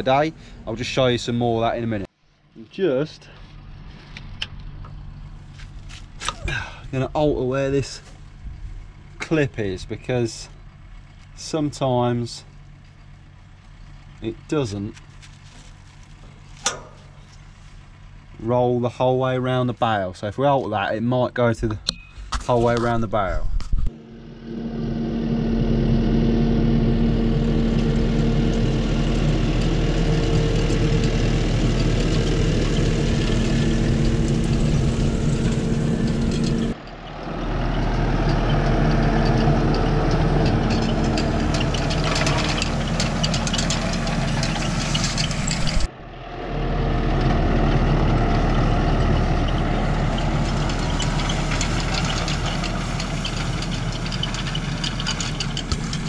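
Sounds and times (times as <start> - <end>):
tractor engine running: 0.0 - 2.1, 2.8 - 21.0, 21.6 - 56.0.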